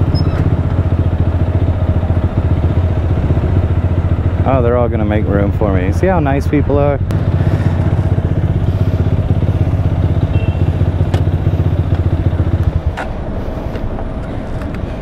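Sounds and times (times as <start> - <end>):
motorcycle idling: 0.0 - 15.0
street background noise: 0.0 - 15.0.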